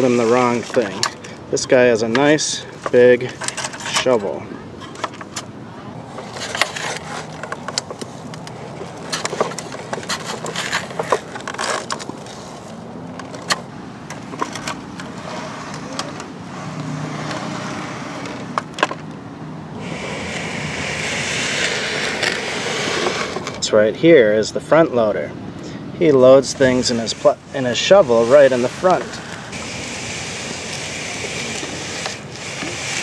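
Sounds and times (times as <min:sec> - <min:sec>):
steady rushing noise: 0:00.0 - 0:24.9, 0:26.0 - 0:33.0.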